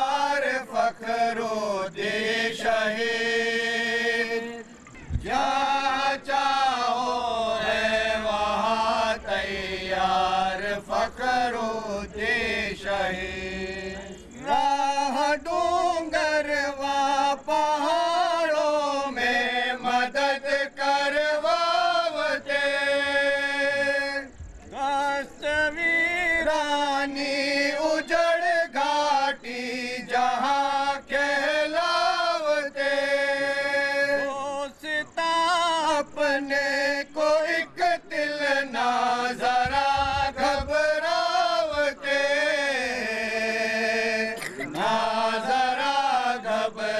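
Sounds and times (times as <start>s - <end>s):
men chanting in unison: 0.0s - 46.9s.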